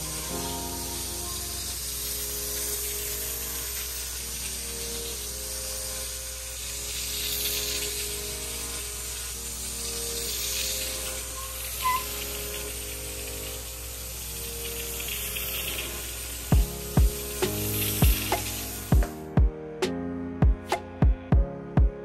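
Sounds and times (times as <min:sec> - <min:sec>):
steam cleaner hissing: 0:00.0 - 0:19.3
soft background music: 0:00.0 - 0:22.0.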